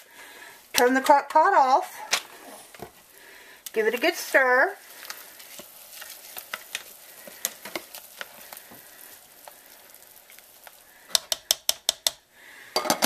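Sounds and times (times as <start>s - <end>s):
spoon stirring wet food: 0.2s - 12.2s.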